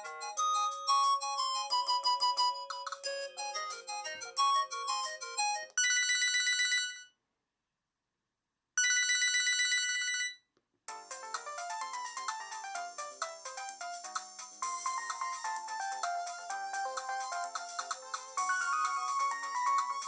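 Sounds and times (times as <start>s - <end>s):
polyphonic ringtone melody: 0.0s - 7.0s, 10.9s - 20.0s.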